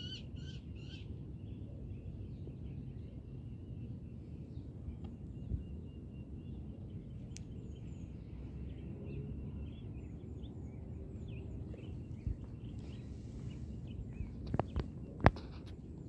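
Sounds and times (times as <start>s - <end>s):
faint bird chirps: 0.0s - 15.9s.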